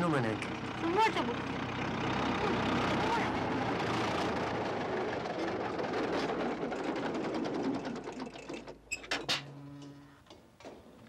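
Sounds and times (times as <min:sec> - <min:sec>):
farm machine engine clattering: 0:00.0 - 0:09.6.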